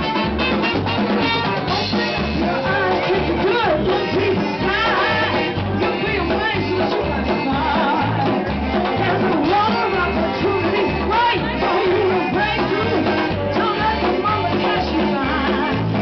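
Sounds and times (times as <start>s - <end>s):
accordion: 0.0s - 16.0s
drums: 0.0s - 16.0s
saxophone: 0.0s - 16.0s
woman singing: 1.1s - 16.0s.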